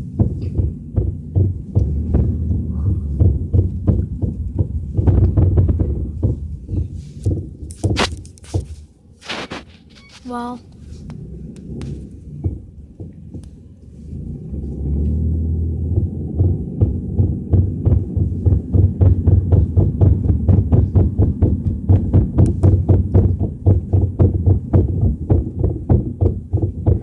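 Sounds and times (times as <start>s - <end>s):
car wheel thumping: 0.0s - 8.9s, 11.0s - 27.0s.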